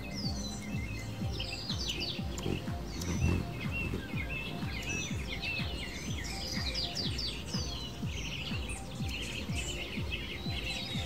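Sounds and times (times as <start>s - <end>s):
background music with low pulse: 0.0s - 11.0s
songbirds chirping: 0.0s - 11.0s.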